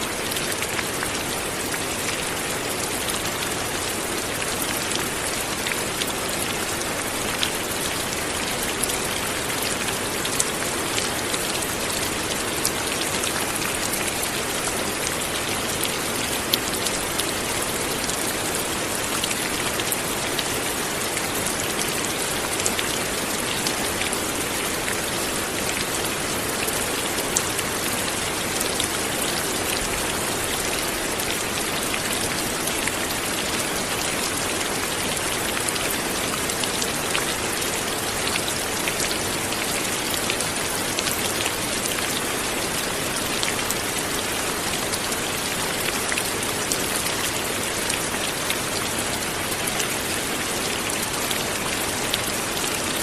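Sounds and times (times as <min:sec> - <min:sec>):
light rain patter: 0:00.0 - 0:53.0.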